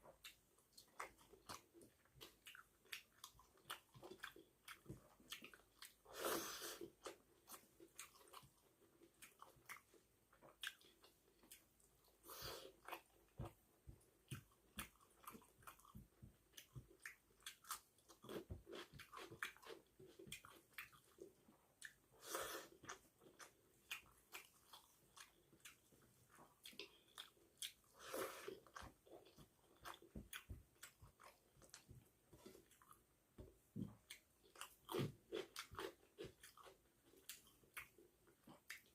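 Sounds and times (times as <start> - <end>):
chewing and biting food: 0.0 - 38.9.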